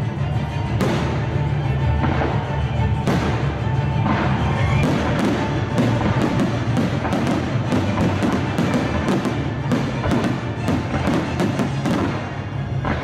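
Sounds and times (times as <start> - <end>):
orchestral music: 0.0 - 13.0
fireworks bursting: 0.6 - 13.0.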